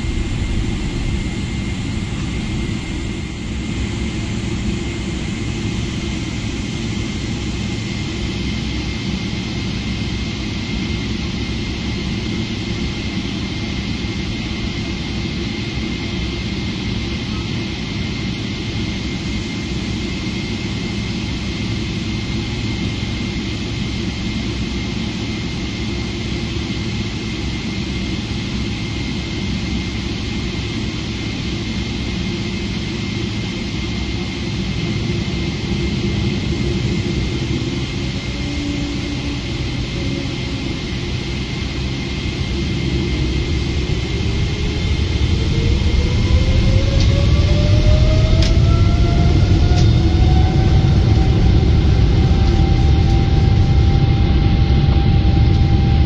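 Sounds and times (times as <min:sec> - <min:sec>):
jet engines rumbling and whining: 0:00.0 - 0:56.0.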